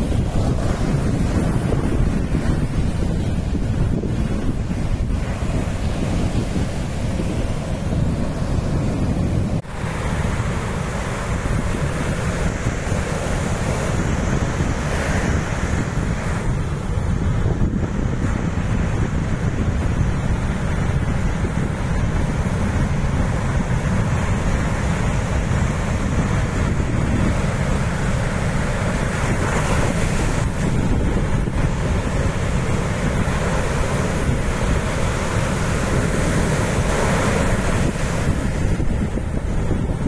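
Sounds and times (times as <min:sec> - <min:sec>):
ocean surf breaking: 0:00.0 - 0:40.0
wind buffeting microphone: 0:00.0 - 0:40.0.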